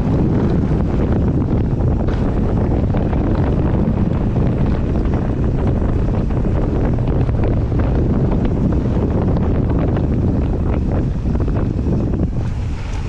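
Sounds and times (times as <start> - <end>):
bike tyre rumble: 0.0 - 13.0
wind buffeting microphone: 0.0 - 13.0.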